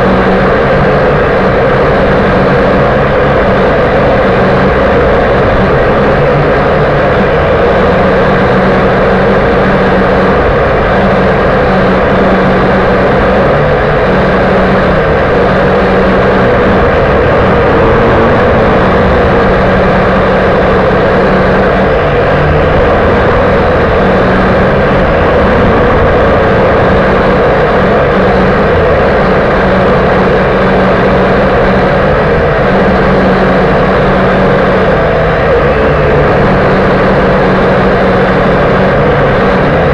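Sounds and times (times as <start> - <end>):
quadcopter motors buzzing: 3.5 - 39.8.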